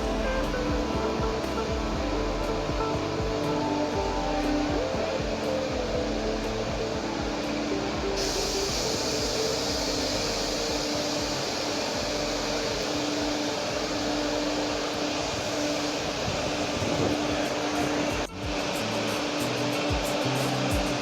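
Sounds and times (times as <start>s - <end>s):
faint background music: 0.0s - 21.0s
steady rushing noise: 0.0s - 21.0s.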